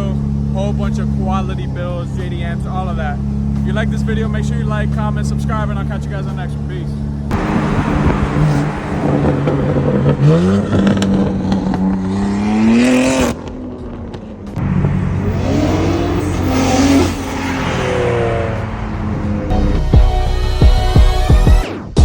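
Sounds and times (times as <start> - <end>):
car engines revving: 0.0 - 21.6.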